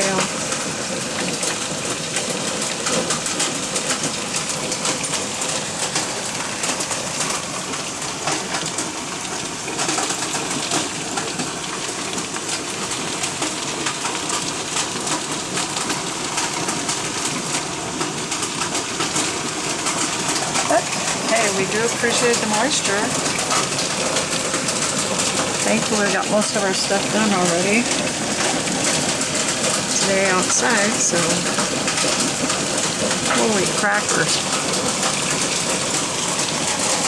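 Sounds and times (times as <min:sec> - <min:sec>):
hailstones striking: 0:00.0 - 0:37.0
rain hiss: 0:00.0 - 0:37.0.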